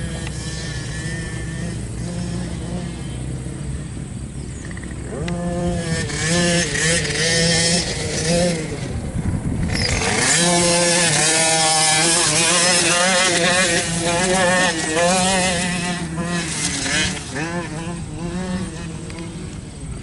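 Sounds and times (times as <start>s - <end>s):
quad engine revving hard: 0.0s - 20.0s.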